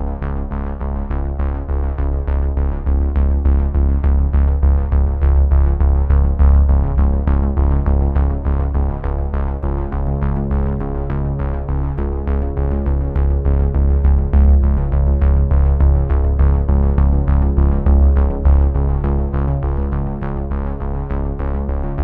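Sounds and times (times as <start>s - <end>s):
music with steady beat: 0.0s - 22.0s
sustained deep bass: 0.0s - 22.0s.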